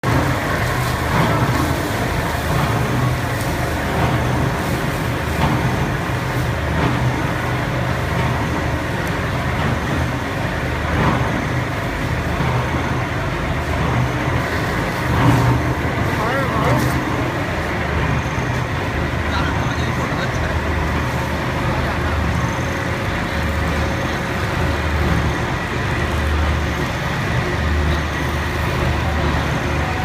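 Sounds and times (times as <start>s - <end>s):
industrial machinery running: 0.0s - 30.0s.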